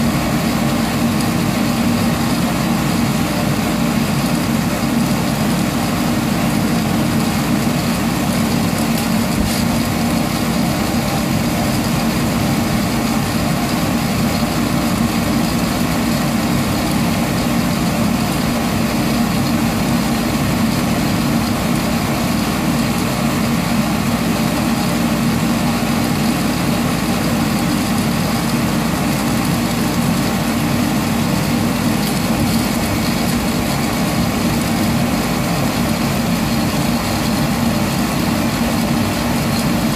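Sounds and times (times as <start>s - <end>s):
coffee roaster blower humming: 0.0s - 39.9s.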